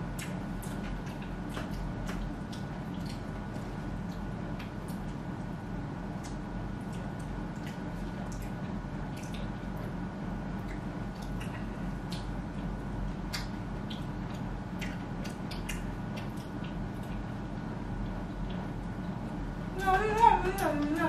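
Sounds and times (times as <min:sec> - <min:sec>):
wet eating clicks and smacks: 0:00.0 - 0:19.4
low room hum: 0:00.0 - 0:21.0.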